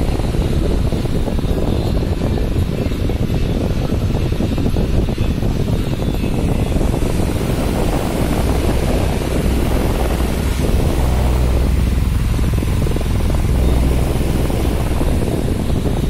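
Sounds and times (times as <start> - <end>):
airflow buffeting microphone: 0.0 - 16.0
desk fan rushing air: 0.0 - 16.0
low rumble: 0.0 - 16.0.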